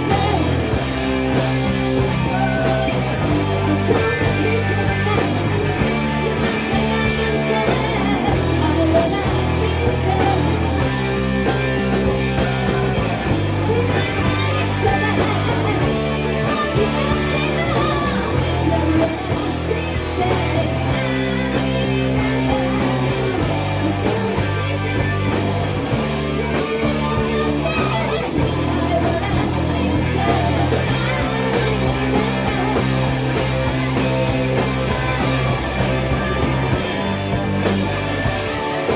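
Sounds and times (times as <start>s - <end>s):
bass long notes: 0.0s - 38.9s
hard rock band playing: 0.0s - 38.9s
person singing: 0.0s - 38.9s.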